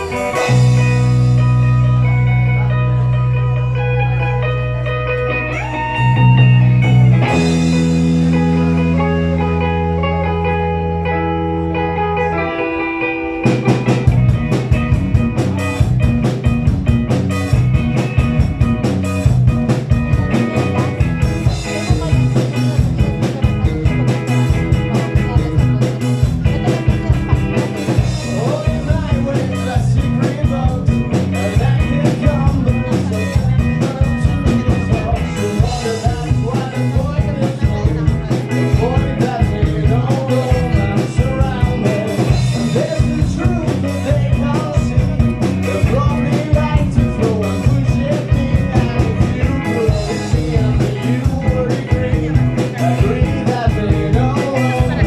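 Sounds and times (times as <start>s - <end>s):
drum kit beat: 0.0s - 11.3s, 13.4s - 55.0s
electric guitar and bass chords: 0.0s - 55.0s.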